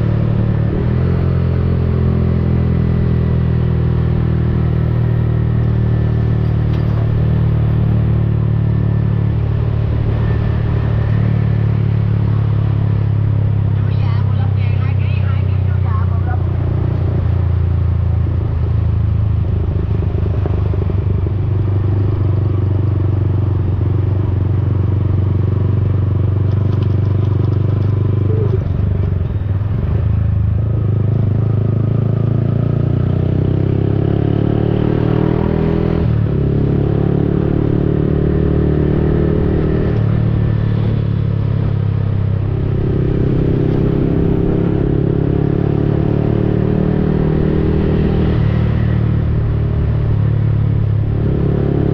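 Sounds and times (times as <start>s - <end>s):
motorcycle engine while riding: 0.0s - 51.9s.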